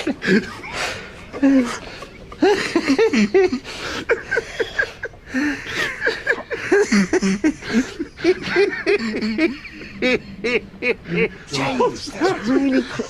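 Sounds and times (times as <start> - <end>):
man's wheezing laughter: 0.0 - 11.4.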